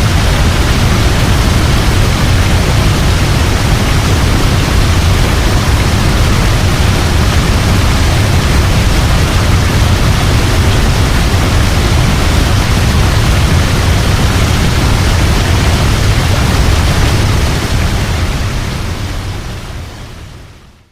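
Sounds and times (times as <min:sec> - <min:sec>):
waterfall rushing: 0:00.0 - 0:20.6.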